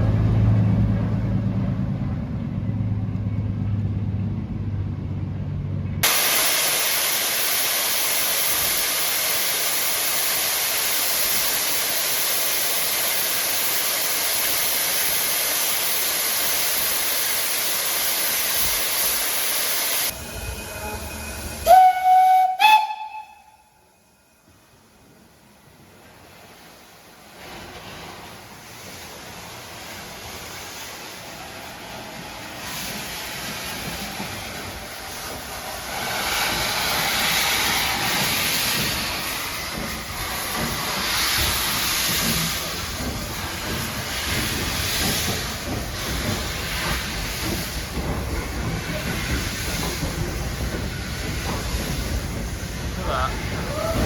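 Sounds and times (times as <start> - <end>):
train passing: 0.0 - 54.0
hiss bursts: 6.0 - 23.3, 26.1 - 54.0.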